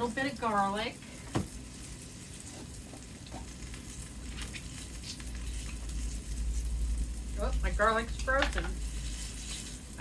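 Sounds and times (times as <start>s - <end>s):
tofu sizzling in oil: 0.0s - 10.0s.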